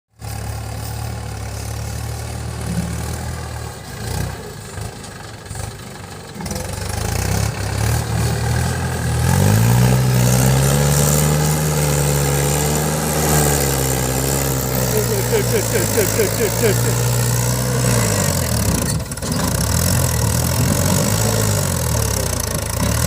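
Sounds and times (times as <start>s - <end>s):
tractor diesel engine revving: 0.2s - 23.0s.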